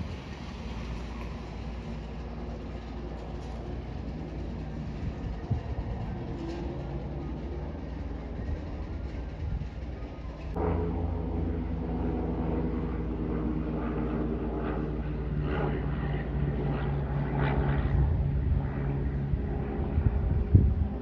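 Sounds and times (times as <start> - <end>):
propeller airplane flying overhead: 0.0 - 21.0.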